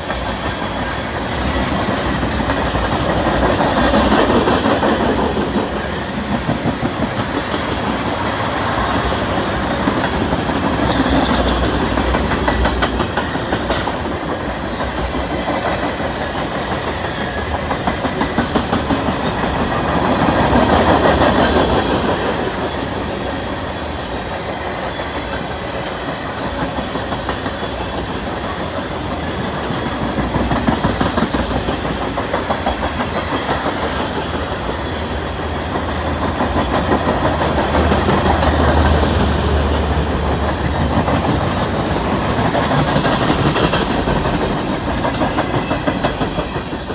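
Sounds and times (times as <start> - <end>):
freight train rumble: 0.0 - 46.9
train wheels clicking over rail joints: 0.0 - 46.9.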